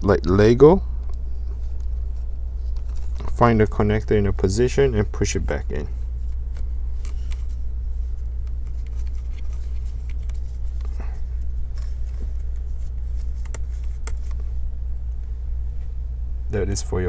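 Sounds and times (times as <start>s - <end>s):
cables and connectors clicking: 0.0s - 15.4s
low electrical hum: 0.0s - 17.0s.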